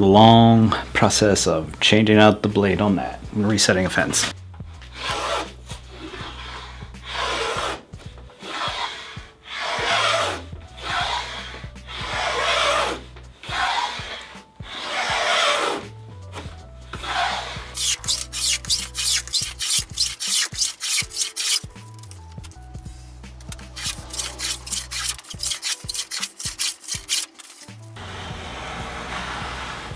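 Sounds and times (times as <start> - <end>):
quiet background music: 0.0 - 29.9
plane scraping along wood: 4.2 - 22.7, 23.3 - 29.9.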